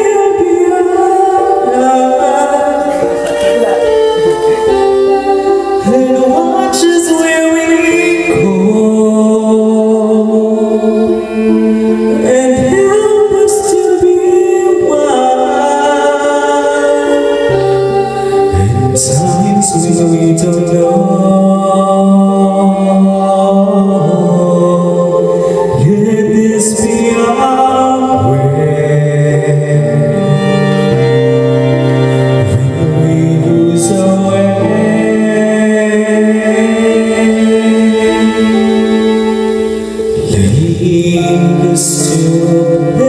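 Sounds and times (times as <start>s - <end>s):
man singing a slow ballad: 0.0s - 31.6s, 32.3s - 43.0s
sustained background notes: 0.0s - 43.0s.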